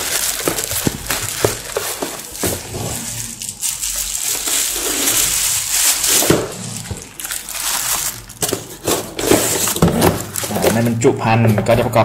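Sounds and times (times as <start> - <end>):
bubble wrap crinkling: 0.0 - 11.9.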